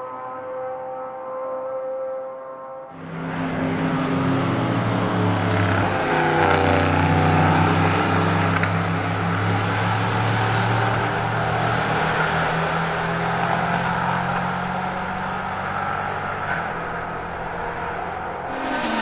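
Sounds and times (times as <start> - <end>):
race car engine passing at speed: 2.9 - 19.0.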